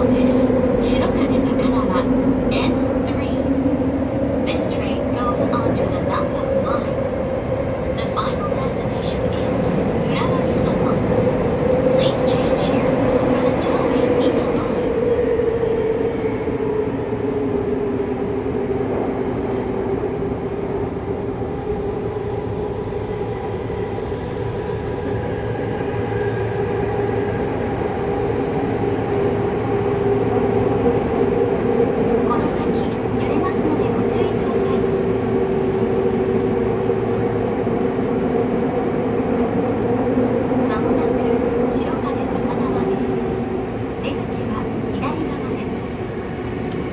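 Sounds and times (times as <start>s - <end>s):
train wheel and track rumble: 0.0s - 46.9s.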